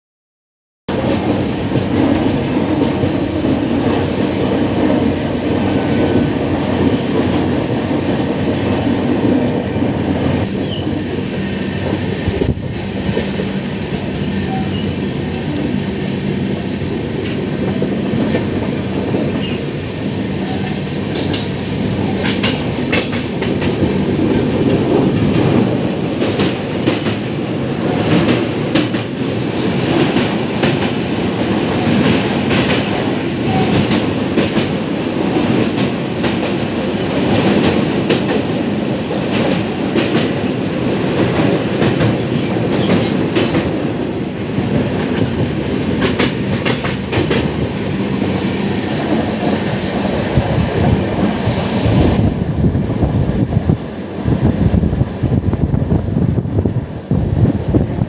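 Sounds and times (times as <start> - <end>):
train wheels clattering on rails: 0.9 - 55.3.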